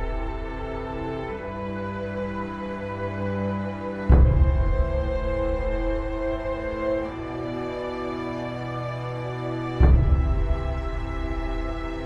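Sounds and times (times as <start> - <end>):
sombre orchestral chords: 0.0 - 12.0.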